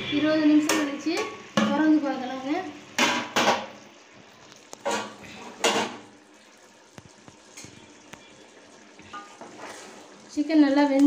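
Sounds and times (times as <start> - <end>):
food bubbling in a pot: 0.0 - 11.0.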